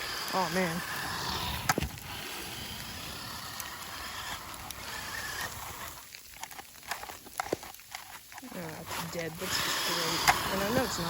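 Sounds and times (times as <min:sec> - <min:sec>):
electric motor whirring: 0:00.0 - 0:07.5, 0:08.5 - 0:11.0.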